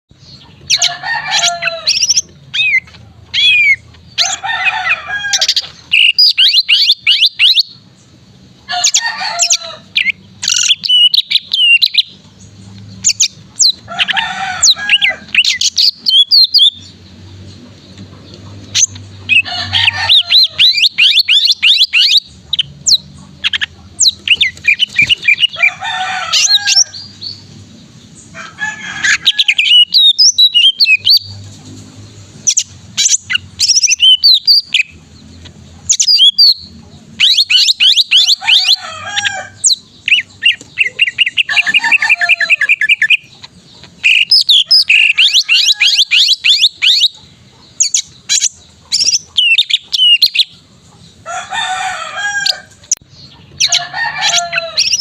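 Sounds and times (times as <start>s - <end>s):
bird singing chirps and trills: 0.1s - 55.0s.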